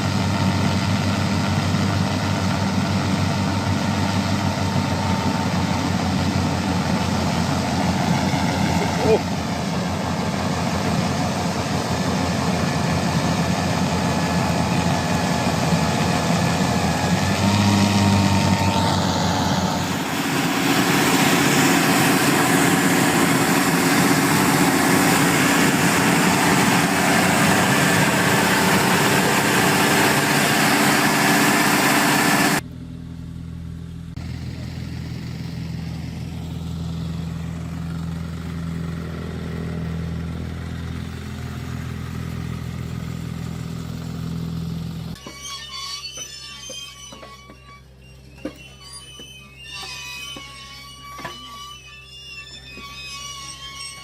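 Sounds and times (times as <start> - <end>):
quieter lower engine sound: 0.0 - 45.2
machinery engines running loudly: 0.0 - 45.4.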